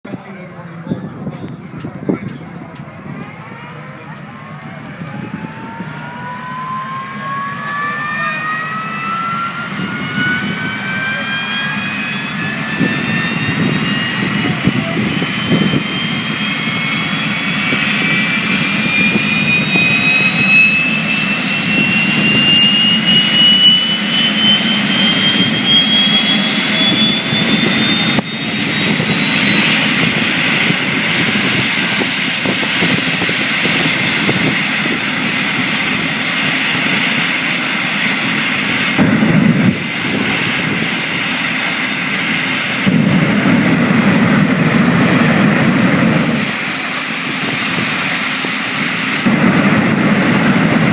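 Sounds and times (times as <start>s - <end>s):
jet engine whine and rush: 0.1s - 50.9s.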